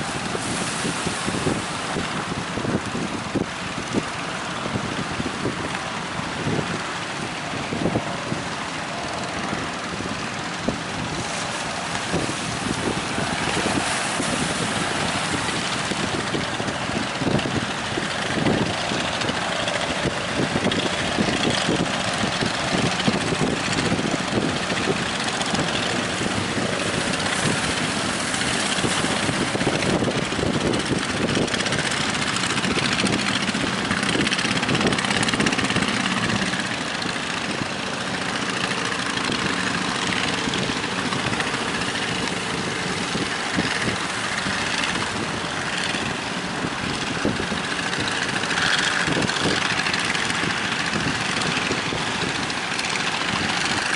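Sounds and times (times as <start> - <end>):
boat engine running: 0.0 - 53.9
strong wind: 0.0 - 53.9
waves rushing and slapping: 0.0 - 53.9.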